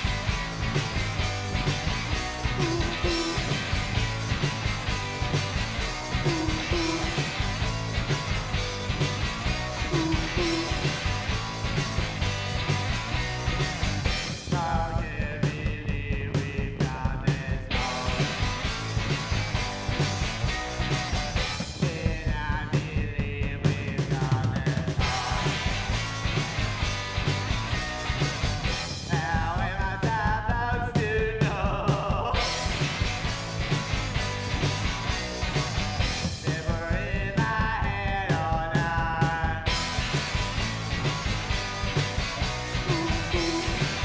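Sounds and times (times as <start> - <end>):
electric guitar: 0.0 - 15.8, 16.9 - 23.0, 23.7 - 44.0
drum kit: 0.0 - 44.0
electric bass: 0.0 - 44.0.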